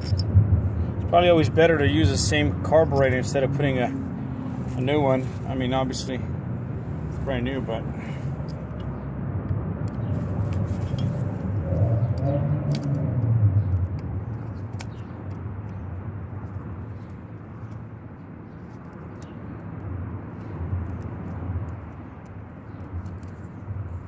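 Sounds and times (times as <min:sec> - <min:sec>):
passing motor vehicle rumble: 0:00.0 - 0:24.0.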